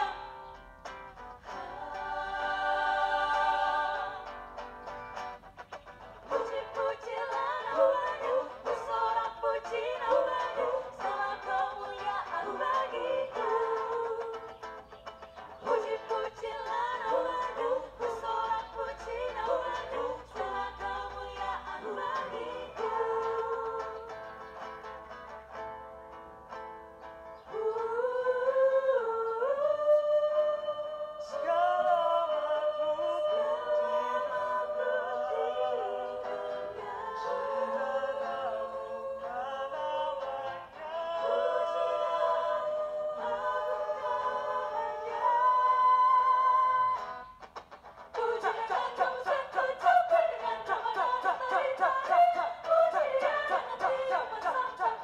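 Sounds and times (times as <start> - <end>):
mixed vocal group singing harmony: 0.0 - 5.3, 6.2 - 24.9, 27.4 - 47.5, 48.1 - 55.0.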